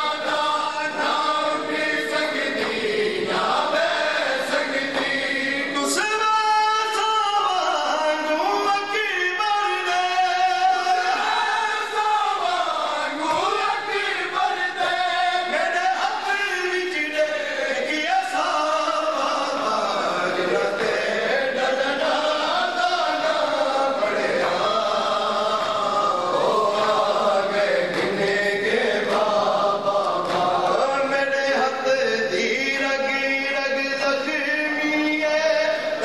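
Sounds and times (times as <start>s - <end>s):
crowd of men chanting: 0.0s - 6.2s, 10.2s - 34.4s.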